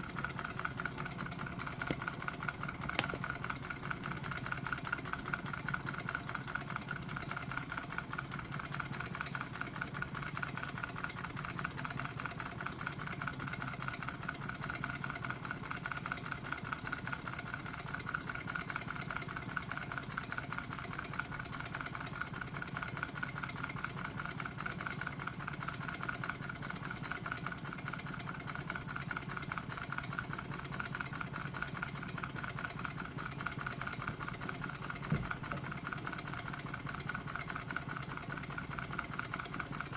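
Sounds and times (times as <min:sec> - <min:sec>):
engine mechanical clatter: 0:00.0 - 0:39.9.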